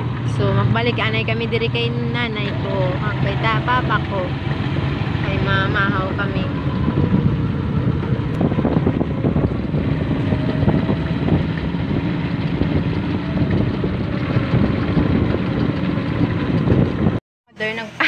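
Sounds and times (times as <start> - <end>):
vehicle engine running: 0.0 - 17.9
road and wind noise: 0.0 - 18.0.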